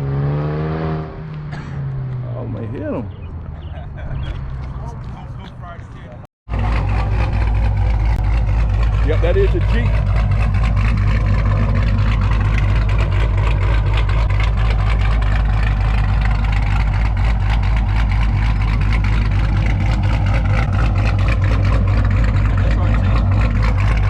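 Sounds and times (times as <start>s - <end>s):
car engine idling loudly: 2.7s - 24.0s.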